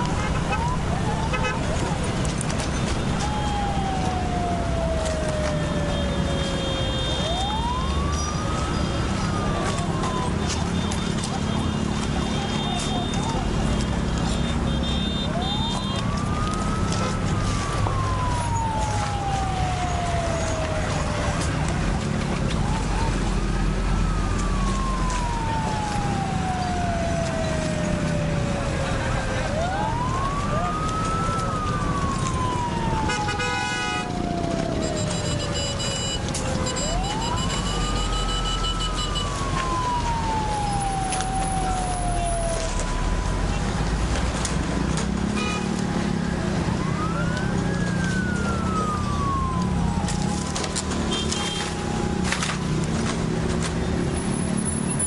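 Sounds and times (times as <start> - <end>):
emergency siren wailing: 0.0 - 55.0
loud street noise: 0.0 - 55.0.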